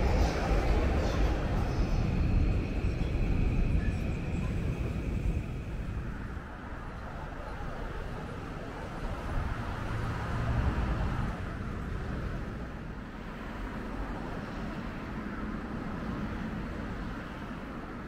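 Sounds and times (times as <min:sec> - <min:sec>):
passing vehicle rumble: 0:00.0 - 0:18.0
road traffic noise: 0:00.0 - 0:18.0.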